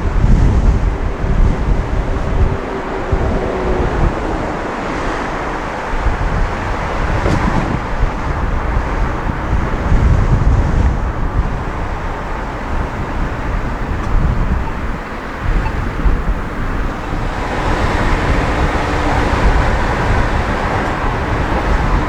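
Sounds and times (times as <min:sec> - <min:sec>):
road and traffic noise: 0:00.0 - 0:22.0
wind rumbling on microphone: 0:00.0 - 0:22.0.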